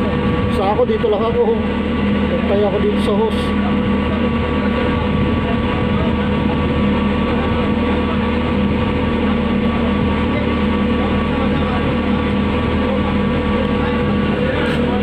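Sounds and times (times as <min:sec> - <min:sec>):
truck engine and suction pump humming: 0:00.0 - 0:15.0.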